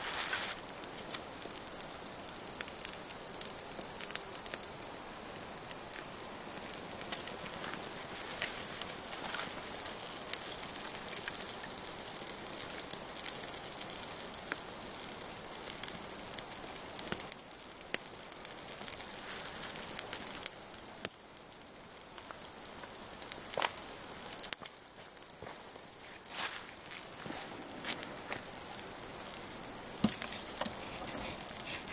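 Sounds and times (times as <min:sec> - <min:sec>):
fire hissing: 0:00.0 - 0:31.9
kindling fire crackling: 0:00.0 - 0:31.9.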